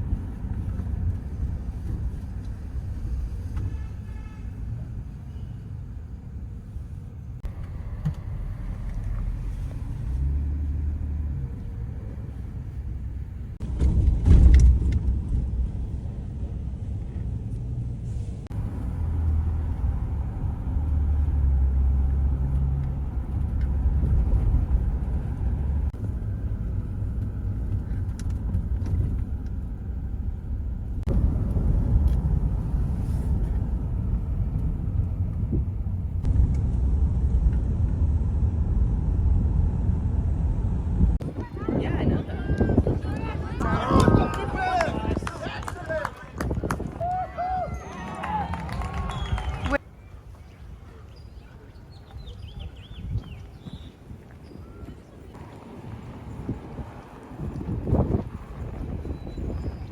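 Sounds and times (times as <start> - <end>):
low rumble of background noise: 0.0 - 59.9.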